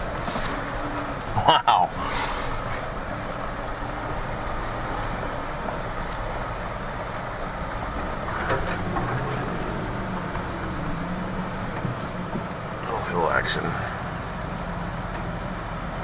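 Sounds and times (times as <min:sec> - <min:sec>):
vehicle engine and tyre noise: 0:00.0 - 0:16.0.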